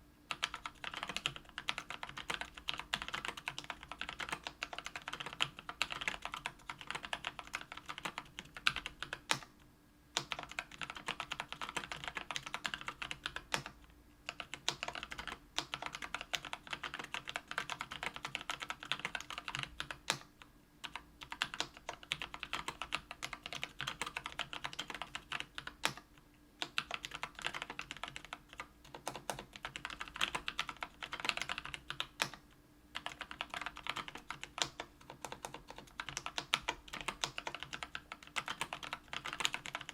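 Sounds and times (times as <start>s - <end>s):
mechanical keyboard typing: 0.3s - 9.5s, 10.2s - 32.4s, 33.0s - 39.9s.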